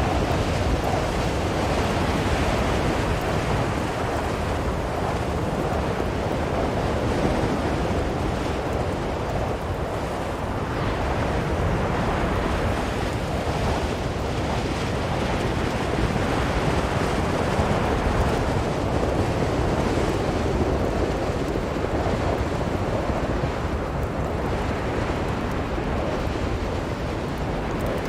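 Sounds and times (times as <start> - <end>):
blizzard wind blowing: 0.0 - 28.0.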